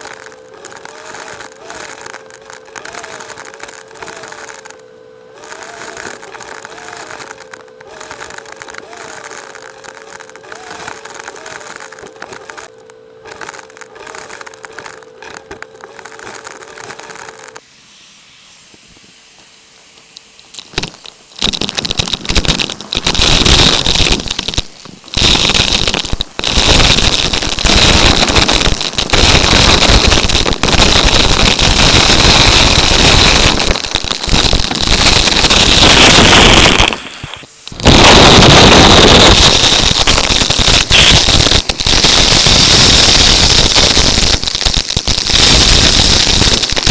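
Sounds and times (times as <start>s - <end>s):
debris rattling up hose: 0.0s - 4.8s, 5.4s - 17.6s, 20.5s - 46.9s
vacuum cleaner motor: 0.0s - 17.6s, 21.6s - 46.9s.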